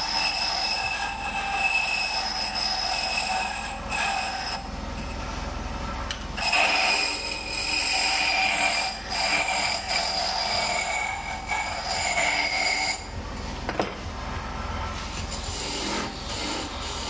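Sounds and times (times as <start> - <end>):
wood lathe cutting whine: 0.0 - 5.1, 6.4 - 13.2, 15.0 - 17.0.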